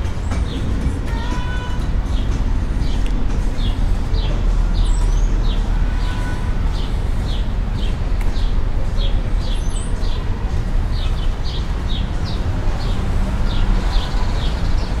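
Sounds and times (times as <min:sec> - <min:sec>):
small birds chirping: 0:00.2 - 0:15.0.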